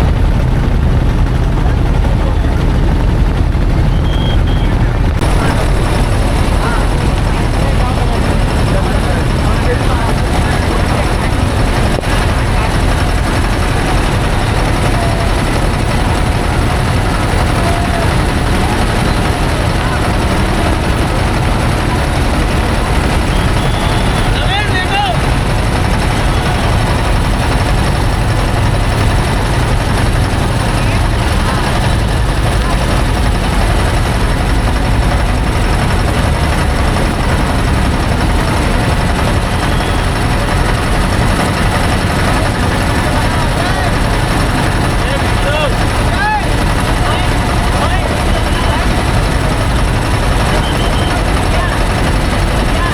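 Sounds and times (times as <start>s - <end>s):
heavy engine droning: 0.0s - 52.9s.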